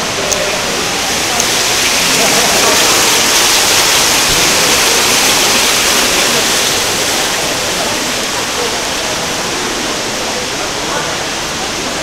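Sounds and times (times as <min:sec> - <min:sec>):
water rushing down glass wall: 0:00.0 - 0:12.0.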